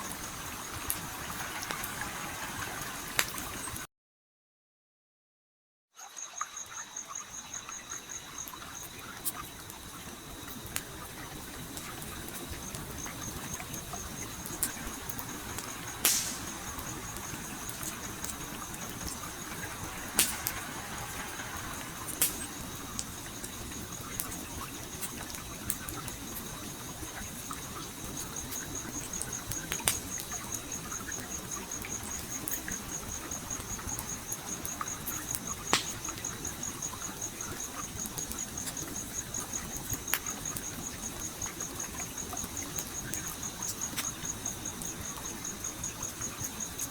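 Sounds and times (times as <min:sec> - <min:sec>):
campfire crackling and popping: 0:00.0 - 0:03.8, 0:07.4 - 0:46.9
flowing stream: 0:00.0 - 0:03.8, 0:06.2 - 0:46.5
insect trill: 0:00.0 - 0:03.8, 0:06.0 - 0:46.9.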